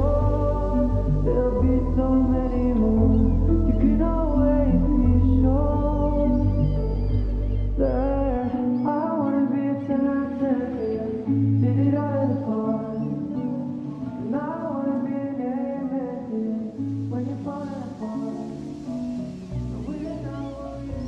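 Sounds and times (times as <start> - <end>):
song with vocals guitar and bass: 0.0 - 21.0.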